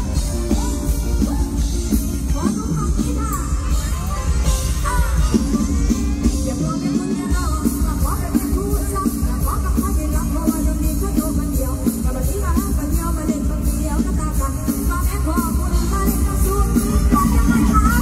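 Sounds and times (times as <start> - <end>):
live band music through pa: 0.0 - 18.0.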